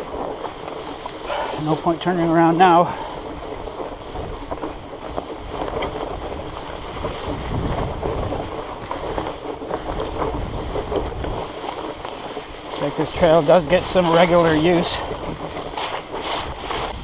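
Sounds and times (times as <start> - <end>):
bike rustling through brush: 0.0 - 17.0
wind rumbling on microphone: 0.0 - 17.0.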